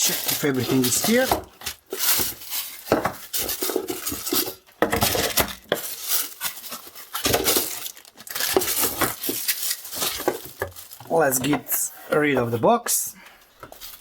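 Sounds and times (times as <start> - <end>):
packaging rustling: 0.0 - 11.6, 13.6 - 14.0.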